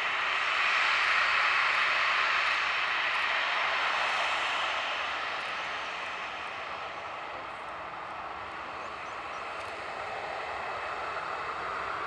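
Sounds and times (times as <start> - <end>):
jet engines taxiing: 0.0 - 12.0.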